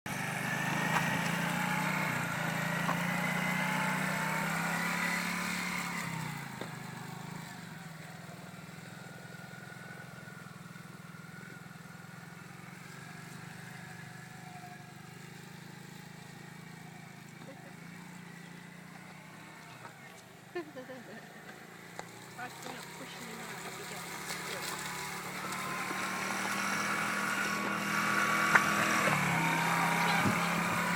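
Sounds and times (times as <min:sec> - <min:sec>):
quad bike engine running: 0:00.1 - 0:30.9.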